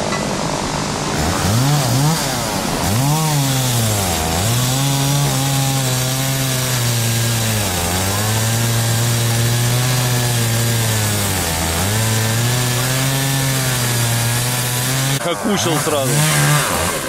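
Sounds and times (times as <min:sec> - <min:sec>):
chainsaw cutting wood: 0:01.1 - 0:17.0.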